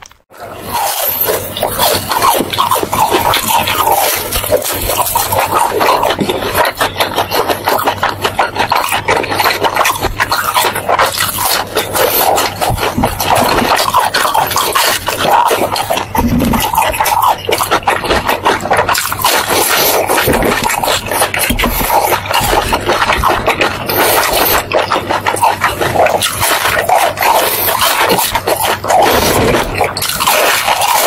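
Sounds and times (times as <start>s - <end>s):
chewing crispy food: 0.0s - 31.0s.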